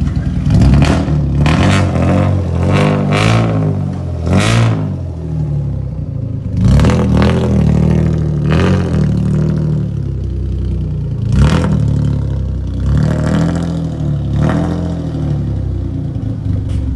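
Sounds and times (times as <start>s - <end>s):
car exhaust rumble: 0.0s - 16.9s.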